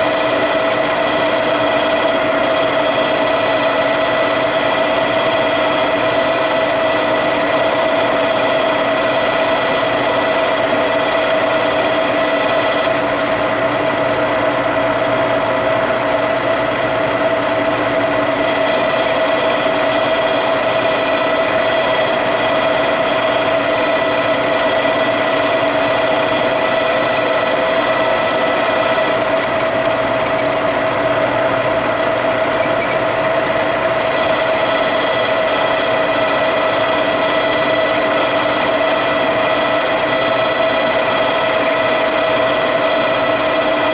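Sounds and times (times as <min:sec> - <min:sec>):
metal lathe whining: 0:00.0 - 0:43.9.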